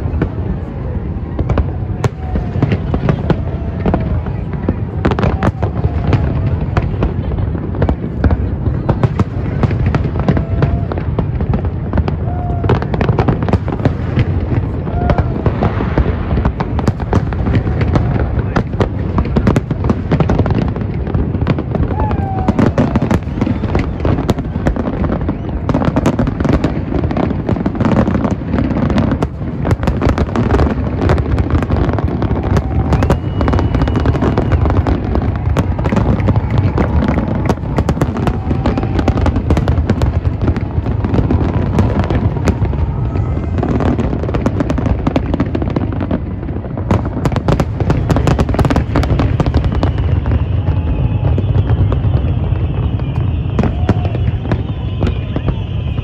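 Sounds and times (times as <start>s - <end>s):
crowd voices: 0.0s - 56.0s.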